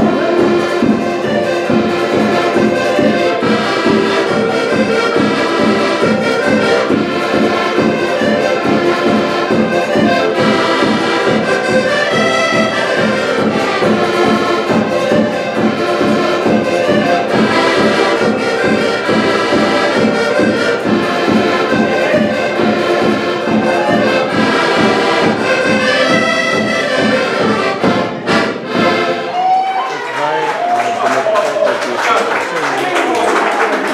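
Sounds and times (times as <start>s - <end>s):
button accordions playing folk tune: 0.0s - 29.4s.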